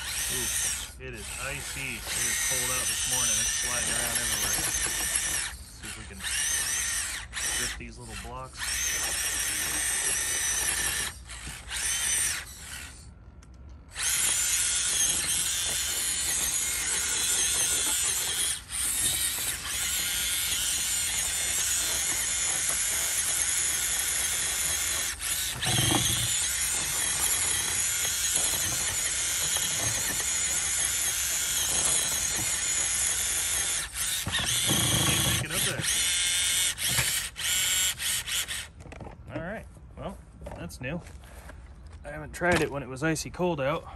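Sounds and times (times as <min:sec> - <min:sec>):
electric motor whining: 0:00.0 - 0:13.1, 0:13.9 - 0:39.0.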